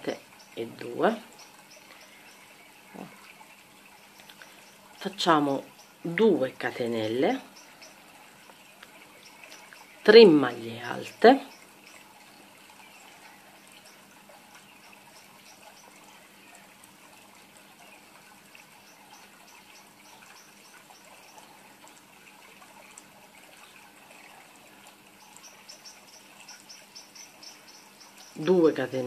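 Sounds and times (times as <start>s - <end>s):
room noise hiss: 0.0s - 29.0s.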